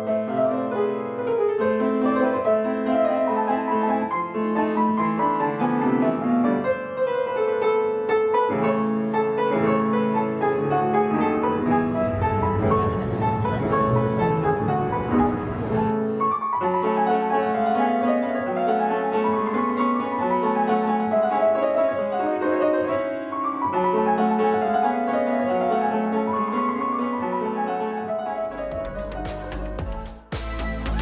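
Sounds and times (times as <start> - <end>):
solo piano music: 0.0 - 29.8.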